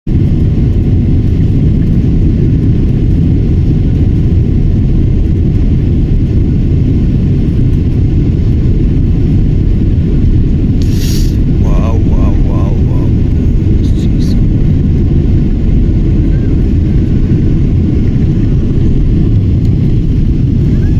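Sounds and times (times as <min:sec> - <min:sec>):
jet engines rumbling on takeoff: 0:00.1 - 0:20.9.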